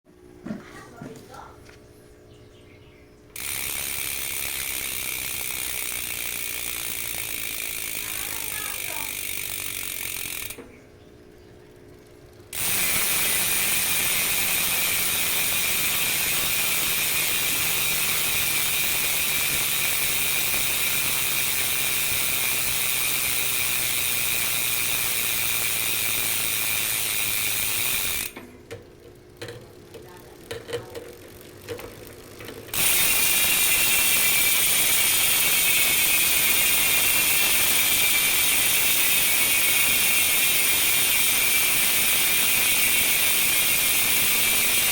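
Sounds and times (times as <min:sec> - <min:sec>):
bicycle hub ratcheting buzz: 0:03.3 - 0:10.8, 0:11.7 - 0:44.9.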